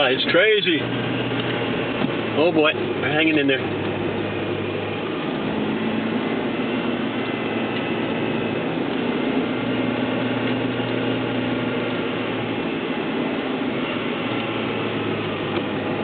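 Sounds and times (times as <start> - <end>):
in-cabin engine hum: 0.0 - 16.0
tire and road noise: 0.0 - 16.0.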